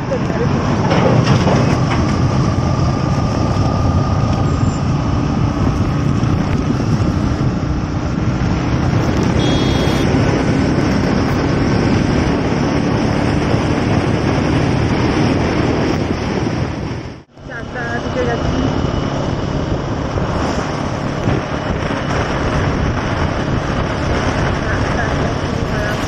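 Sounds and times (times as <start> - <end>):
motorcycle wind and road noise: 0.0 - 26.0.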